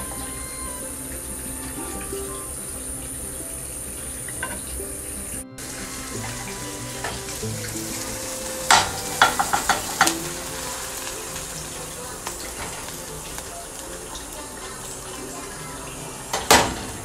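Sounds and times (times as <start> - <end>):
omelette sizzling in a pan: 0.0 - 17.0
soft background music: 0.0 - 17.0.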